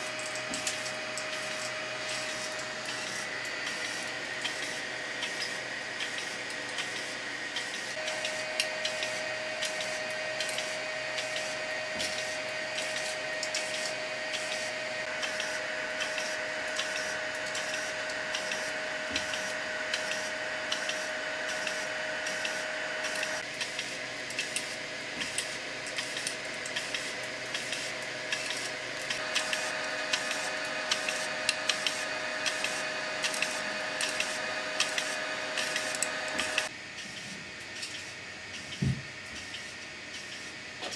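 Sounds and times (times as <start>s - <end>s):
motor whine: 0.0s - 40.9s.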